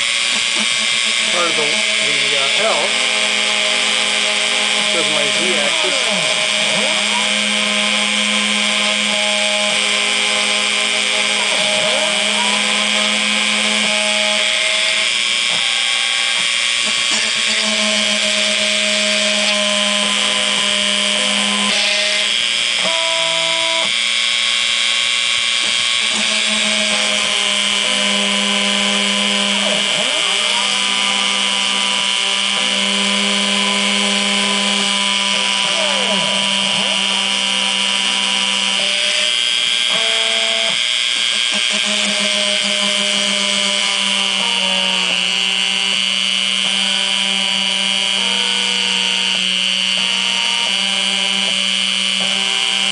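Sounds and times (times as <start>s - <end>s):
rotary tool engraving wood: 0.0s - 52.9s
stepper motors whining: 0.0s - 52.9s.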